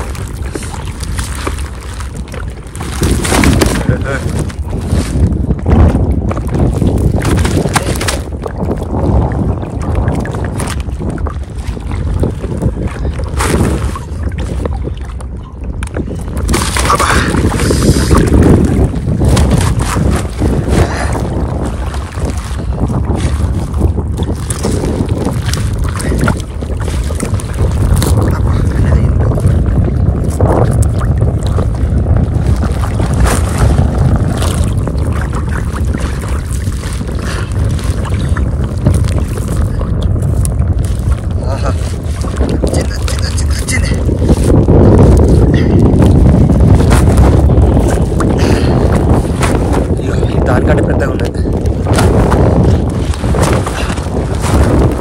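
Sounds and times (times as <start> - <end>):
water sloshing: 0.0 - 55.0
water splashes: 0.0 - 55.0
wind buffeting microphone: 0.0 - 55.0.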